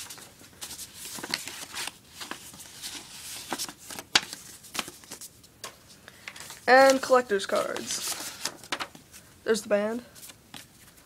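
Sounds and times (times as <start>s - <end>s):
paper and card rustling: 0.0s - 9.3s, 9.9s - 11.0s.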